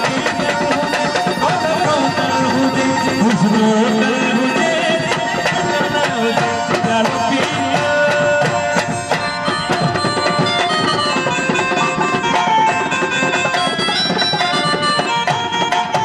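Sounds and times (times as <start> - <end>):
fast hand drum rhythm: 0.0 - 16.0
harmonium melody: 0.0 - 16.0.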